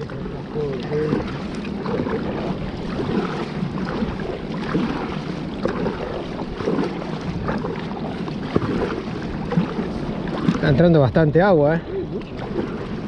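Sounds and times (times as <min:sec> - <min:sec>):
paddle strokes: 0:00.0 - 0:13.0
water splashing along a hull: 0:00.0 - 0:13.0
wind rumbling on microphone: 0:00.0 - 0:13.0.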